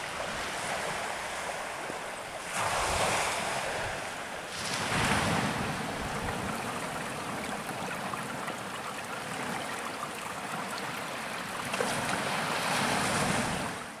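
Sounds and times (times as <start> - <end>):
waves washing up on beach: 0.0 - 14.0.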